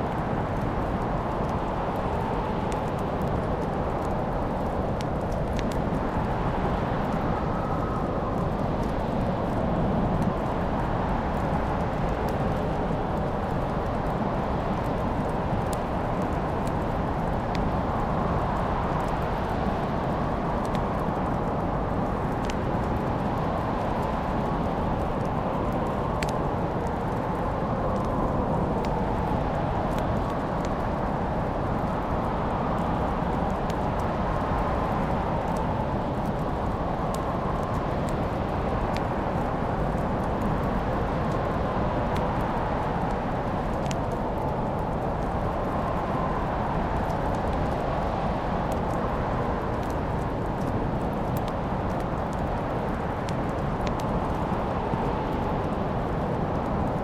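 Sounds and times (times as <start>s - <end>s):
fire crackles and pops: 0.0s - 57.0s
fire flames rumbling: 0.0s - 57.0s.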